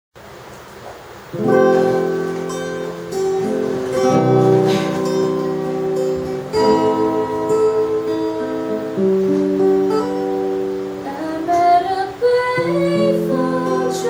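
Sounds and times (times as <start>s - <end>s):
faint hiss: 0.2s - 14.0s
acoustic guitar strumming chords: 1.1s - 14.0s.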